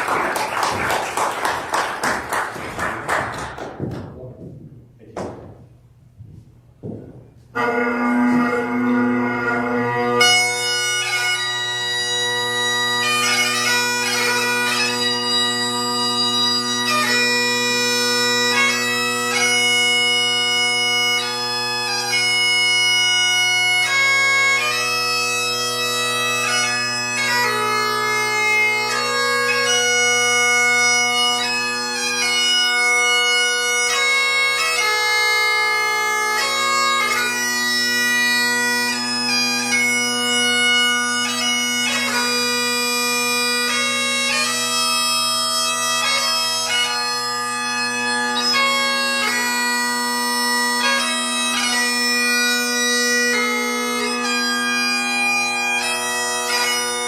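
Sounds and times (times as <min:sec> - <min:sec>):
bagpipe chanter melody: 0:06.8 - 0:57.0
bagpipe drones: 0:06.8 - 0:57.0.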